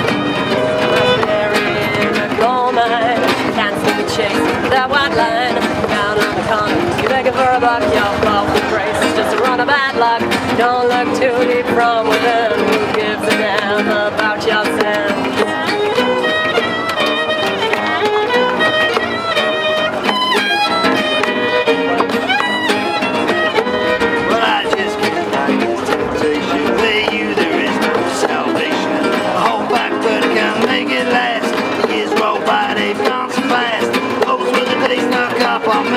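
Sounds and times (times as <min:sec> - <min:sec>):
cajon beat: 0:00.0 - 0:35.9
fiddle melody: 0:00.0 - 0:35.9
strummed acoustic guitars: 0:00.0 - 0:35.9.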